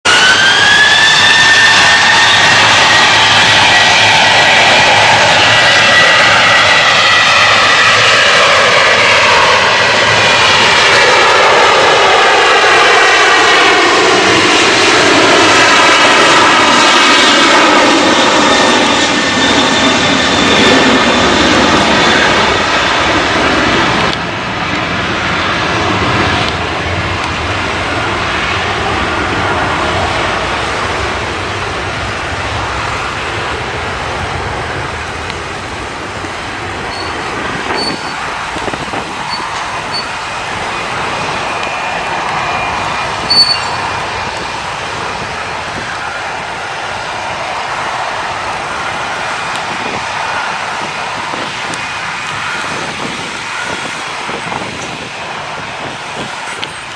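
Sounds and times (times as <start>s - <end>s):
jet engines at takeoff power: 0.0s - 56.9s.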